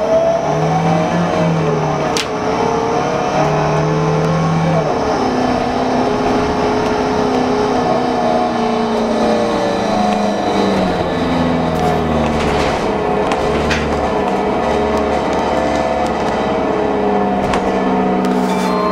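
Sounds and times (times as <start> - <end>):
bus engine and road noise: 0.0 - 18.9
bus whine: 0.0 - 18.9.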